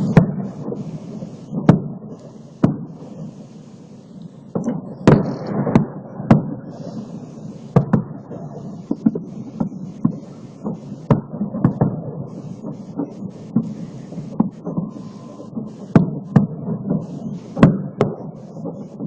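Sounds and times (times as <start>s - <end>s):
fireworks booms and bangs: 0.0s - 19.0s.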